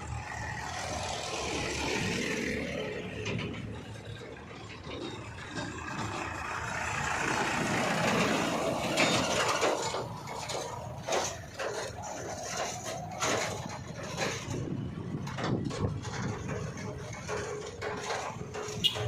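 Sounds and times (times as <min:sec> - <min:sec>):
diesel engine running: 0:00.0 - 0:19.0
knocks and clatters: 0:00.0 - 0:19.0.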